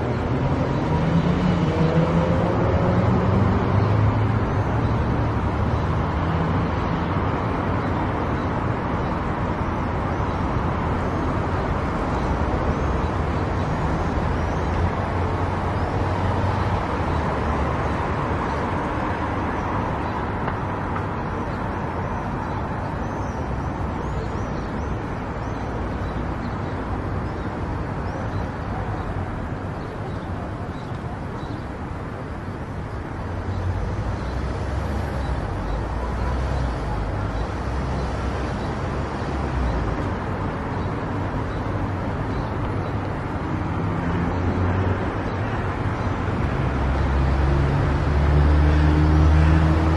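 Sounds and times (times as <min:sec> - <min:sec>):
tyre and road noise: 0:00.0 - 0:49.9.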